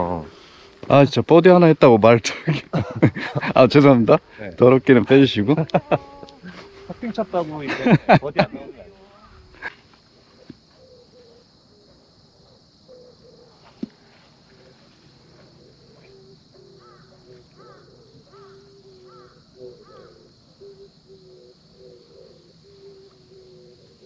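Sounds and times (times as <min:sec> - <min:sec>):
high insect drone: 0:00.0 - 0:24.0
bird calls: 0:02.5 - 0:24.0.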